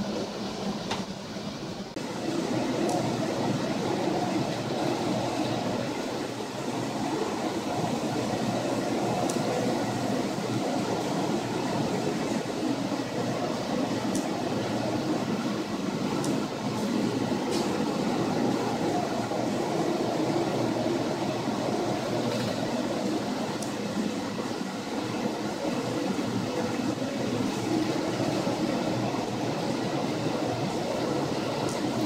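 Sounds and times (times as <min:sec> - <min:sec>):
roar of wind waves and machinery: 0:00.0 - 0:32.0.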